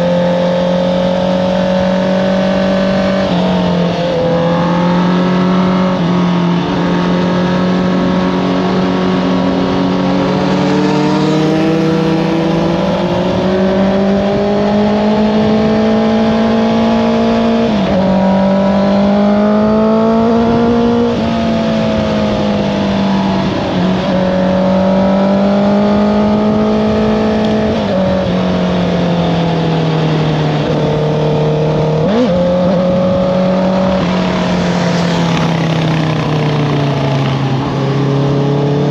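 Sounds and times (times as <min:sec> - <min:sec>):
motorcycle engine under load: 0:00.0 - 0:38.9.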